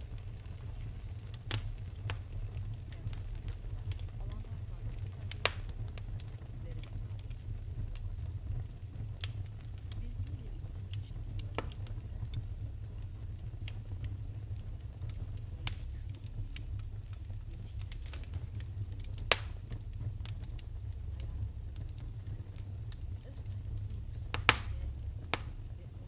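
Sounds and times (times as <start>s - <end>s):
low steady rumble: 0.0s - 26.0s
wood fire crackling: 0.0s - 26.0s.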